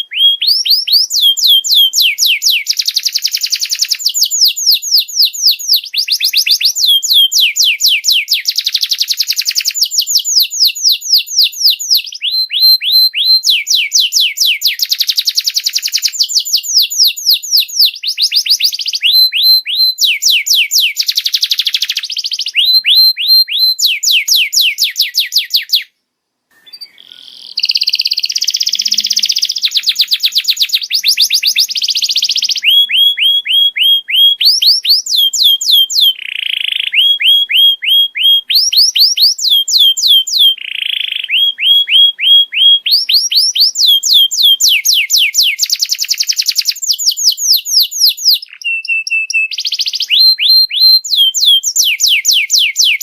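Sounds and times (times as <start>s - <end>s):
canary singing trills: 0.0s - 25.9s, 26.5s - 53.0s.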